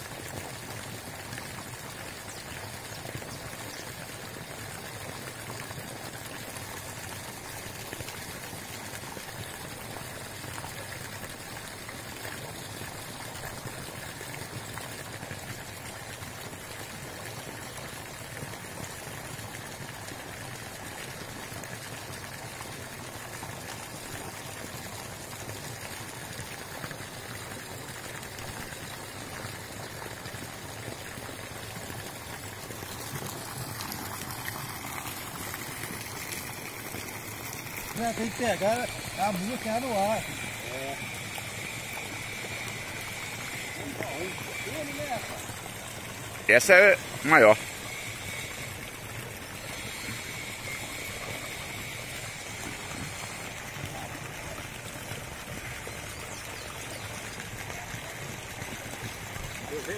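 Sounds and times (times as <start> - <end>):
water splashing into pond: 0.0 - 59.9.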